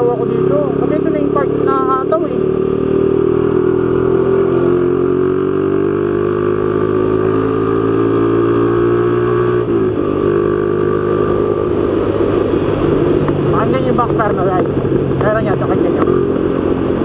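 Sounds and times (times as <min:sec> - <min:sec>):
motorcycle revving high: 0:00.0 - 0:17.0.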